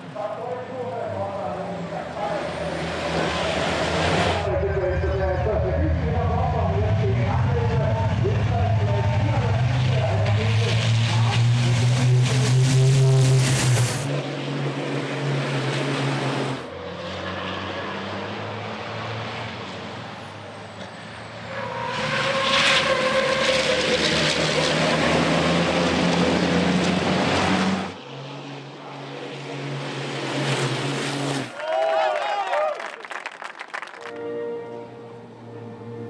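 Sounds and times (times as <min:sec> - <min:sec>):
race truck diesel engines passing: 0:00.0 - 0:31.8, 0:33.4 - 0:36.0.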